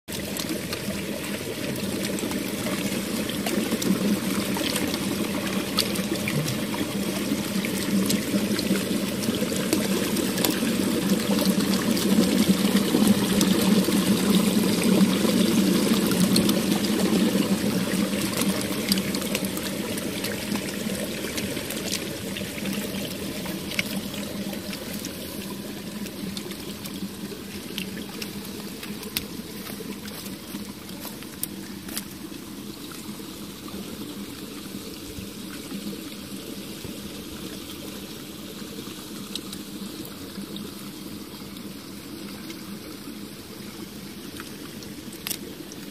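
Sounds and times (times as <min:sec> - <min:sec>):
spring water splashing into pool: 0:00.1 - 0:41.2.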